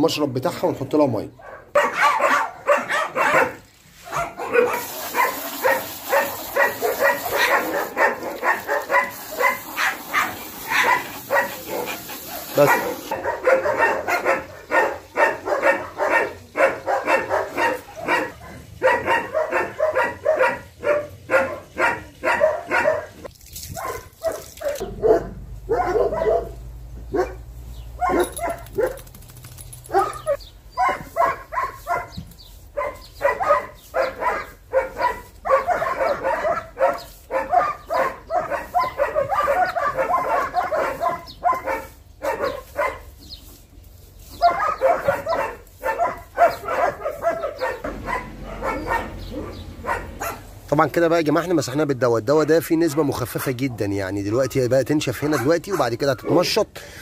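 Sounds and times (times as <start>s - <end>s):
dogs barking rapidly: 0.5s - 56.7s.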